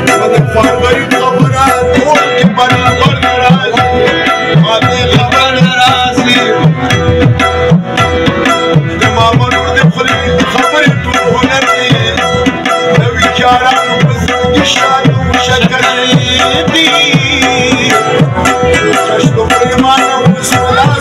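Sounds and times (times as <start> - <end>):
harmonium chords: 0.0 - 21.0
man singing: 0.0 - 21.0
tabla drumming: 0.0 - 21.0.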